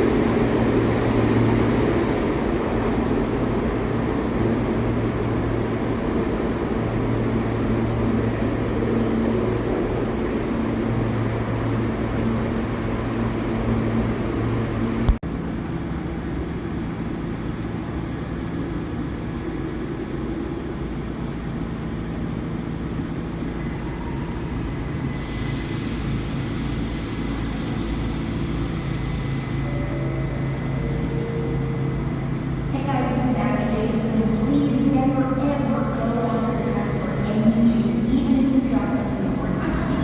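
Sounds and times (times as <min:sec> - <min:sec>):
subway train rumbling: 0:00.0 - 0:40.0.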